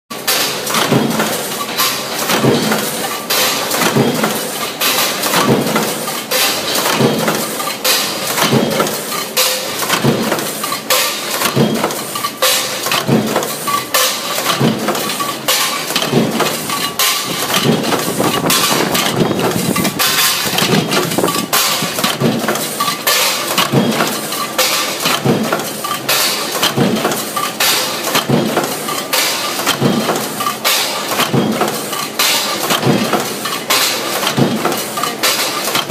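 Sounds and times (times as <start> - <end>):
machine knocking: 0.1 - 35.9
machine parts clattering: 0.2 - 35.9.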